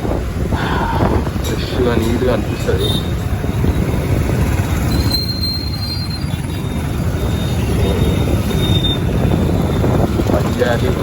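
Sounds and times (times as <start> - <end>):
motorbike engine and road noise: 0.0 - 11.0
wind buffeting microphone: 0.0 - 11.0.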